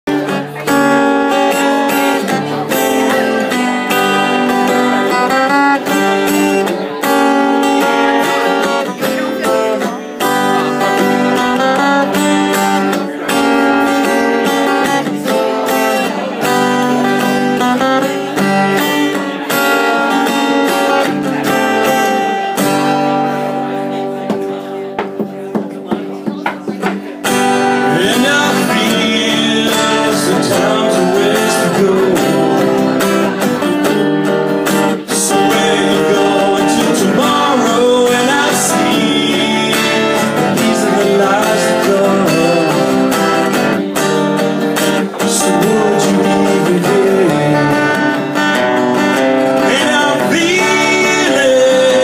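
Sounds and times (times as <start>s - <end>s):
acoustic guitars strumming: 0.0s - 52.0s.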